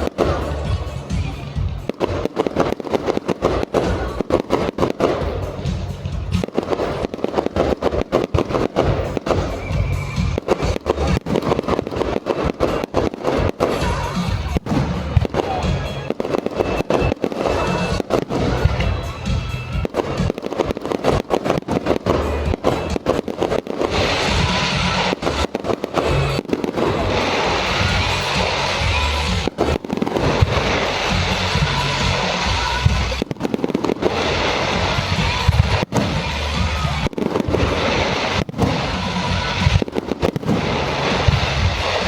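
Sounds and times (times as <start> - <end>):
fireworks bangs and crackles: 0.0 - 42.0
music playing: 0.0 - 42.0.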